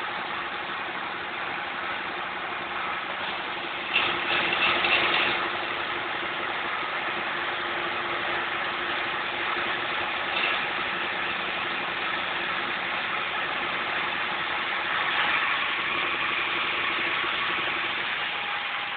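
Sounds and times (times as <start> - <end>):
engine driving a generator: 0.0 - 18.9.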